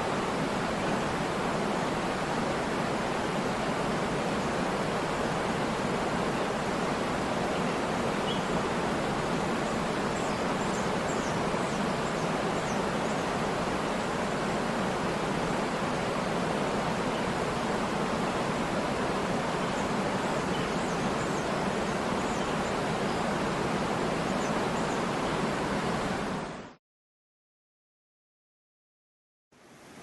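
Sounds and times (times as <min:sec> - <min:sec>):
waterfall rushing water: 0:00.0 - 0:26.6.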